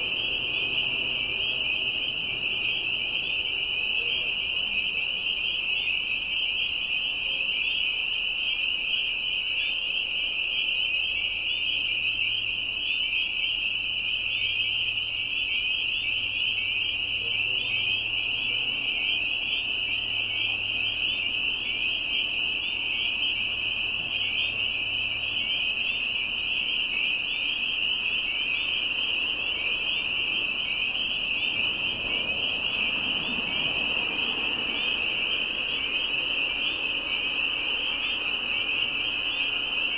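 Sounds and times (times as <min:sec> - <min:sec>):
frogs peeping in chorus: 0:00.0 - 0:39.9.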